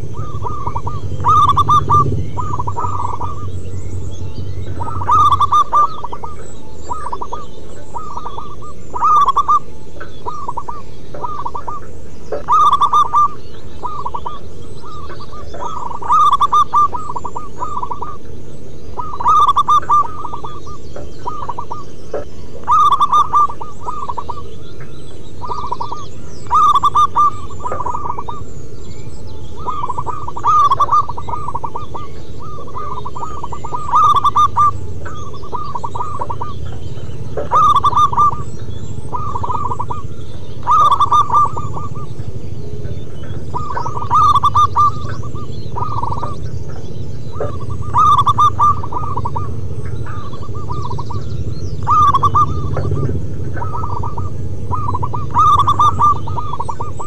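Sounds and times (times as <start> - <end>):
doves cooing: 0.0 - 57.0
low background hiss: 0.0 - 57.0.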